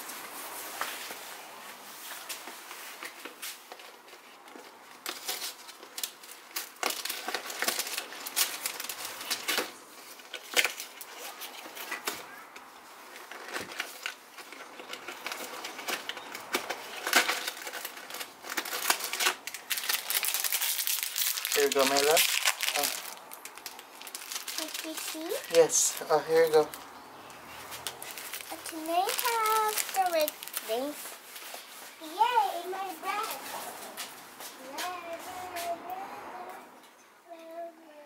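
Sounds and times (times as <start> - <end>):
material crinkling and rustling: 0.0 - 35.7.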